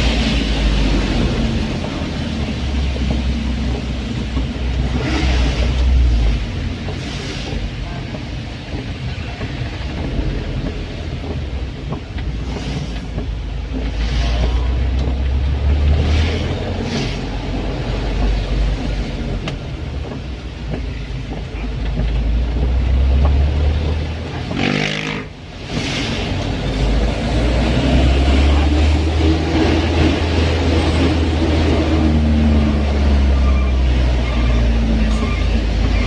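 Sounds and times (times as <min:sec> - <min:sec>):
rushing swishes: 0:00.0 - 0:19.7, 0:22.7 - 0:36.0
minibus engine and road noise: 0:00.0 - 0:36.0.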